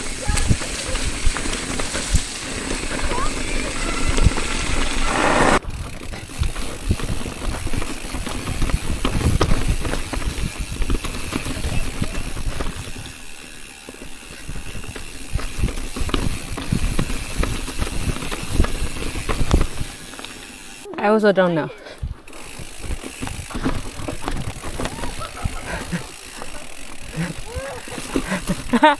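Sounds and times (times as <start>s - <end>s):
knocks and rattles over rocks: 0.0s - 4.8s, 6.0s - 20.4s, 22.1s - 27.2s
bike tyres on rocky trail: 0.0s - 28.9s.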